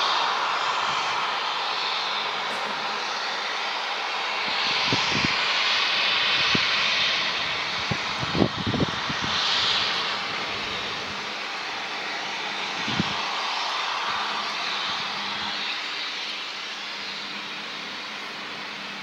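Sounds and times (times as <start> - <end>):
steam safety valve hissing: 0.0 - 18.4.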